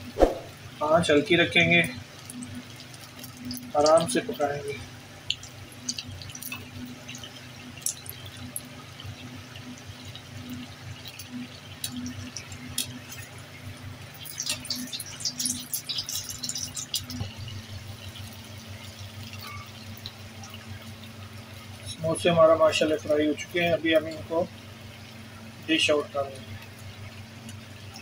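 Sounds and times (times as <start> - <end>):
food deep-frying in oil: 0.0 - 28.0
low steady hum: 0.0 - 28.0.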